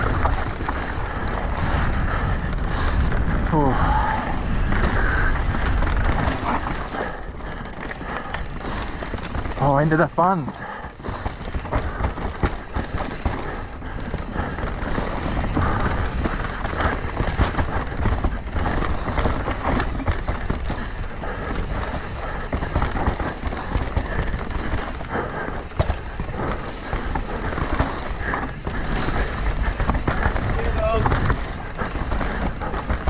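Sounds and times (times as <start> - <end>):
wind rumbling on microphone: 0.0 - 9.6, 10.6 - 33.0
tyres rolling over dirt and rocks: 0.0 - 33.0.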